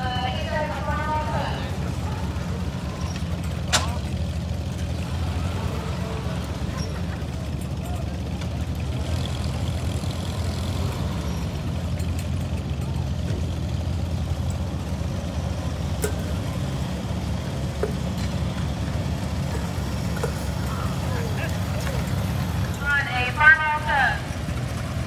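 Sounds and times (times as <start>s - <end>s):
faint voices: 0.0s - 25.0s
tractor engine running: 0.0s - 25.0s.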